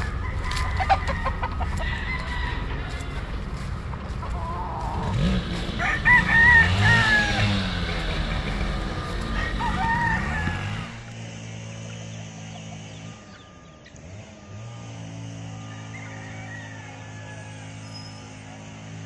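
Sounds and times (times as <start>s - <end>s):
roosters crowing: 0.0s - 19.0s.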